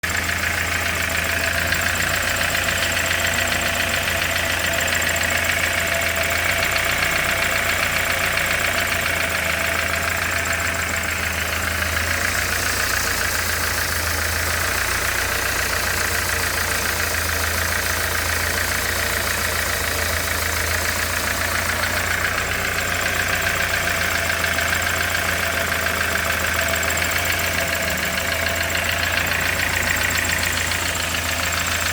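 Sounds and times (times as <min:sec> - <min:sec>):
car engine idling: 0:00.0 - 0:31.9
fast repetitive engine knock: 0:00.0 - 0:31.9.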